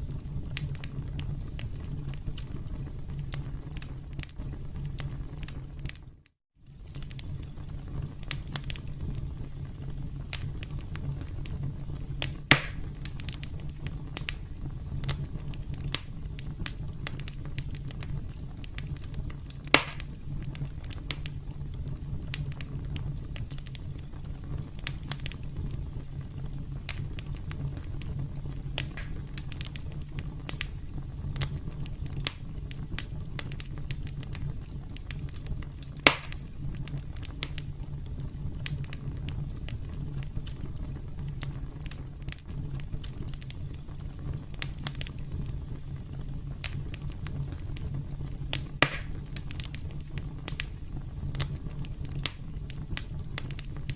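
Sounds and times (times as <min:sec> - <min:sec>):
campfire crackling: 0:00.0 - 0:53.9
loud fire pops: 0:00.0 - 0:53.9
low rumble of flames: 0:00.0 - 0:53.9.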